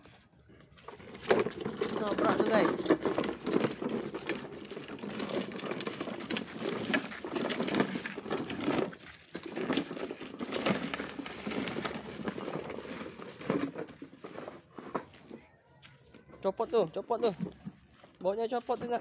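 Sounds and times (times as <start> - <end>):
plastic wheels crunching on gravel: 0.0 - 19.0.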